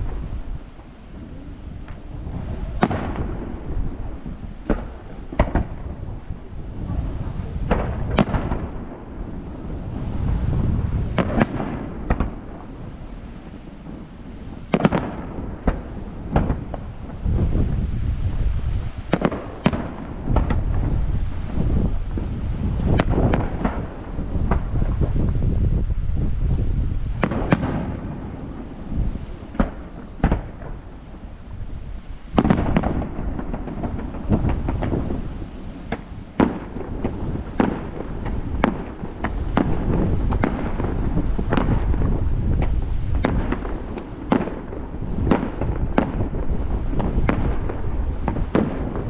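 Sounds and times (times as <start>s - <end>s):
continuous low rumble: 0.0s - 49.0s
fireworks bursting: 0.0s - 49.0s.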